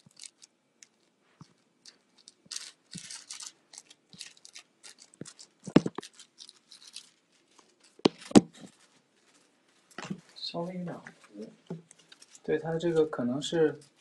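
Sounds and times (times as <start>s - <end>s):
rubbing and rustling on phone: 0.0s - 12.6s.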